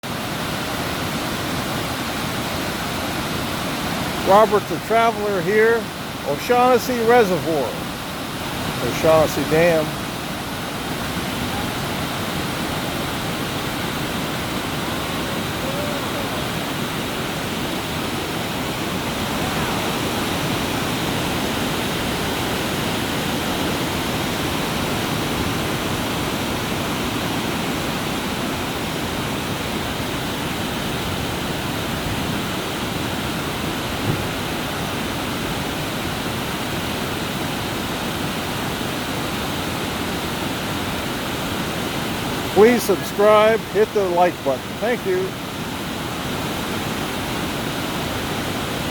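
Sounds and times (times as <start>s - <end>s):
water rushing over spillway: 0.0s - 48.9s.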